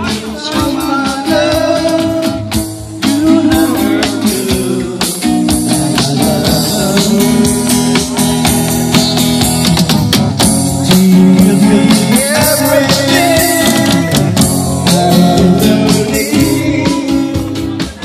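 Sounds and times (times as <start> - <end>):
man singing into microphone: 0.0 - 8.4, 10.8 - 18.0
percussive beat: 0.0 - 18.0
strummed acoustic guitar: 0.0 - 18.0.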